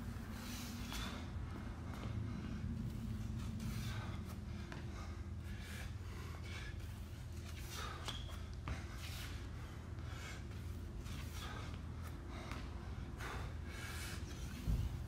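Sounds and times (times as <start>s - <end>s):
steady low hum: 0.0s - 15.0s
man gasping for breath: 0.1s - 15.0s.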